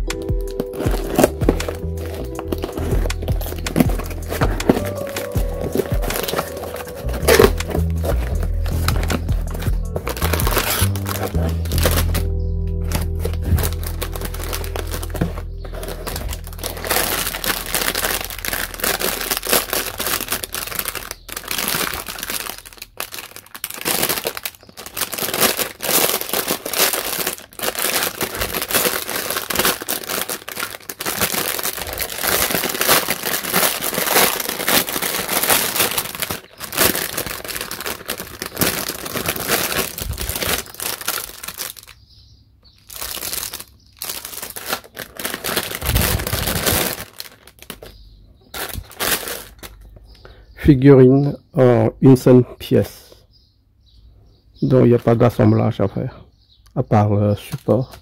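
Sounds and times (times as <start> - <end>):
plastic bags crinkling: 0.0 - 42.1, 42.7 - 50.4
cardboard flaps rustling: 0.1 - 41.8, 43.0 - 47.9.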